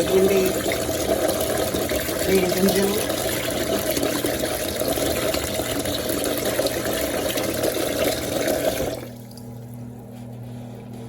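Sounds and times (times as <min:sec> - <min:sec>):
tap water running into a strainer: 0:00.0 - 0:09.5.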